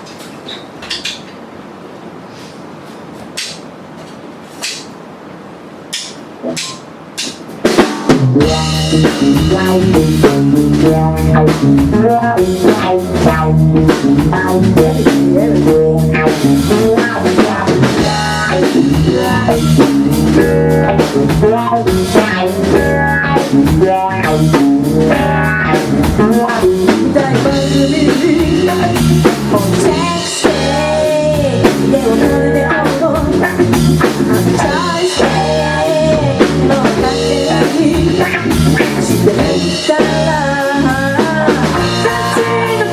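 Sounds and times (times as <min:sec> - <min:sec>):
drum kit: 0:02.4 - 0:05.1, 0:05.8 - 0:42.9
live rock band playing: 0:06.0 - 0:42.9
guitar: 0:06.4 - 0:42.9.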